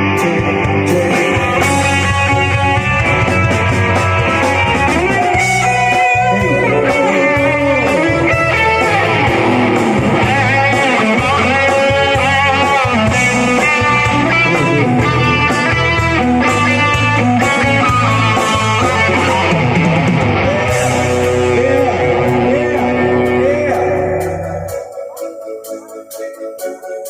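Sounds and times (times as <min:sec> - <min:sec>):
guitar-led music with bass: 0:00.0 - 0:27.0.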